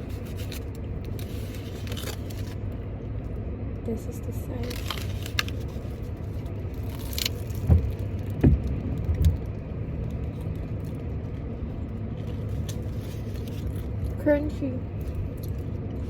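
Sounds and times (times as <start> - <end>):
car interior engine rumble: 0.0 - 16.0.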